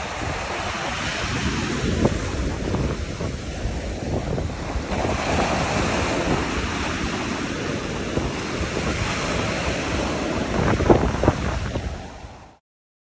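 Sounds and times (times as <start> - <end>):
ocean surf breaking on beach: 0.0 - 12.6
wind noise on microphone: 0.0 - 12.6.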